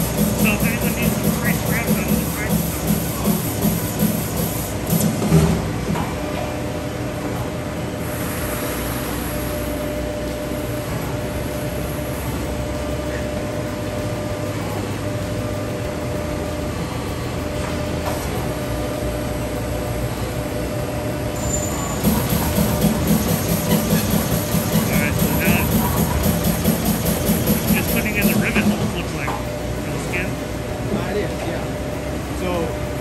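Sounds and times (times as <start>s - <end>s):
punch press mechanical hum: 0.0s - 33.0s.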